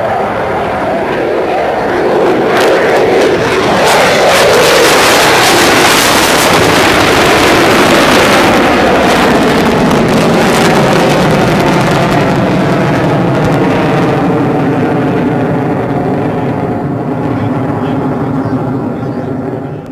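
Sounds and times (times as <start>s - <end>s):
jet engines roaring overhead: 0.0s - 19.9s.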